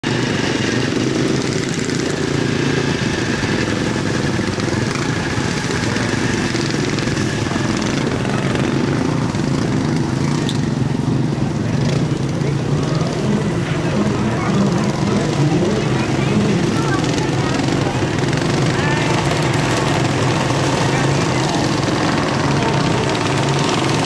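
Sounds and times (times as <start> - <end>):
small racing engines running: 0.0 - 24.0.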